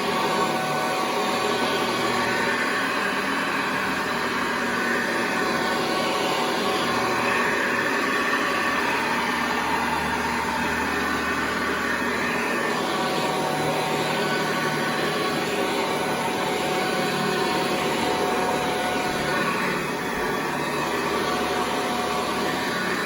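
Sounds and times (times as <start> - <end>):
upright vacuum cleaner running: 0.0 - 23.0.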